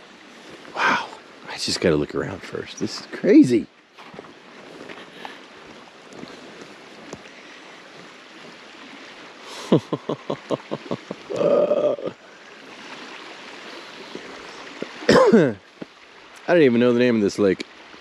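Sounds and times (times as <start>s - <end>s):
small waves on a shore: 0.0s - 18.0s
wind: 0.0s - 18.0s.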